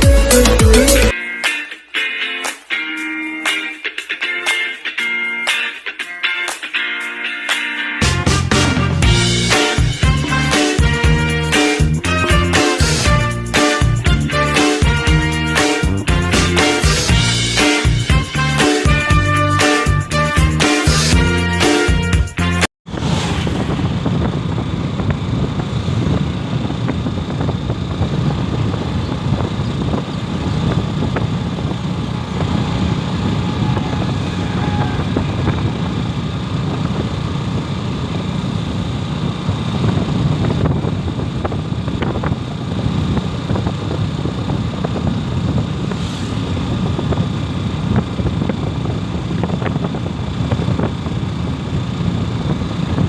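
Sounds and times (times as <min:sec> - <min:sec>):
motorcycle engine: 0:08.0 - 0:21.6, 0:22.9 - 0:53.0
road noise: 0:08.0 - 0:21.8, 0:22.9 - 0:53.0.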